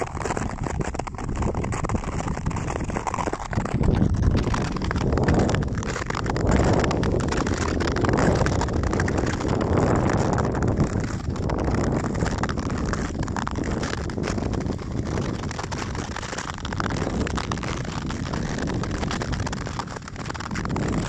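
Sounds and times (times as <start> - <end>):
skate blades scraping ice: 0.0 - 21.0
wind on microphone: 0.0 - 21.0.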